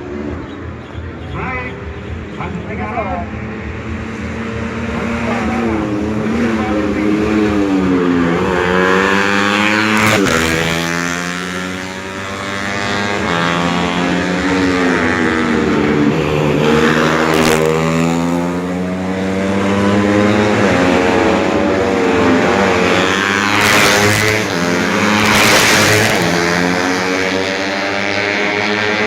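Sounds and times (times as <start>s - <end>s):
motorcycles at full throttle: 0.0s - 29.0s.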